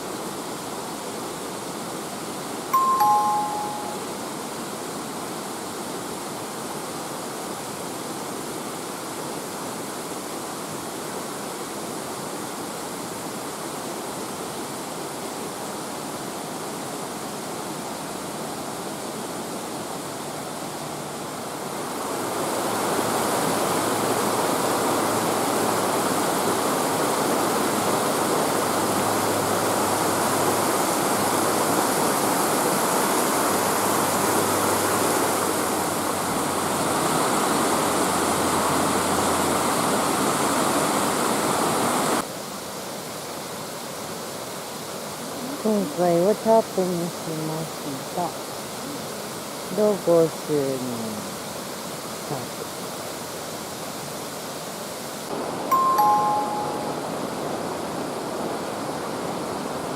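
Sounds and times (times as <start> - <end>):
mountain stream rushing: 0.0 - 45.4, 51.2 - 59.9.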